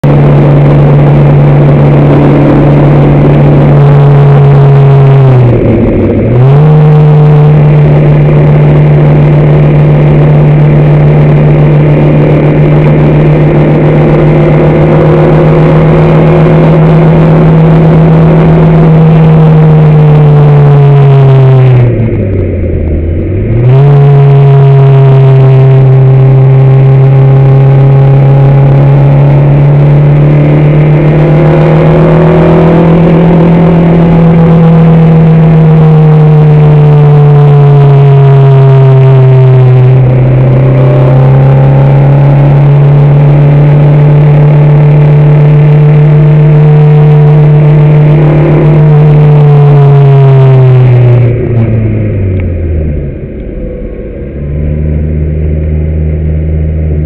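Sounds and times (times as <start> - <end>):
racing engine high note: 0.0 - 57.0.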